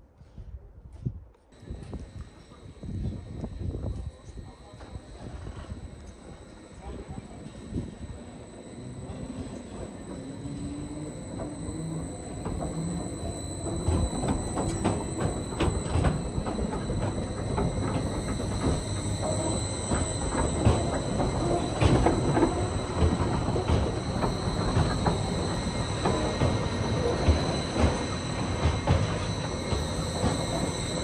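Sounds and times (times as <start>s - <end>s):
clacks of wheels on rails: 1.6s - 31.0s
train low rumble: 1.6s - 31.0s
train wheels squealing: 1.6s - 31.0s.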